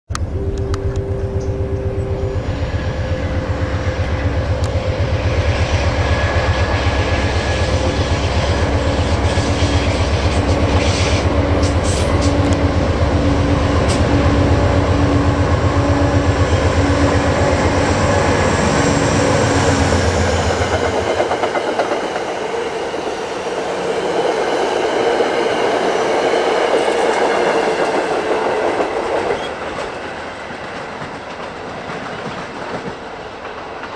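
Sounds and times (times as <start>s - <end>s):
diesel locomotive engine droning: 0.1s - 33.9s
train cars rumbling on rails: 0.1s - 33.9s.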